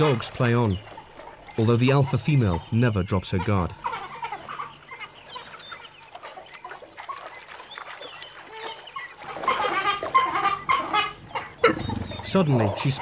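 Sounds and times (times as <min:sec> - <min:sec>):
wild dogs twittering calls: 0:00.0 - 0:13.0.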